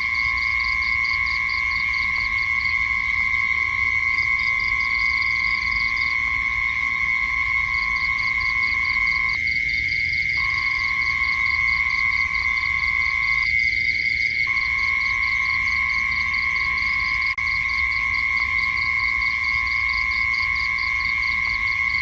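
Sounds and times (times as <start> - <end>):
insect trill: 0.0 - 22.0
pulsed insect chirping: 0.0 - 22.0.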